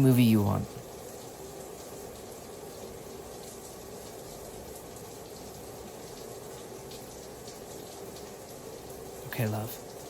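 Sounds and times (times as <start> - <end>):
shower spraying water: 0.0 - 10.0.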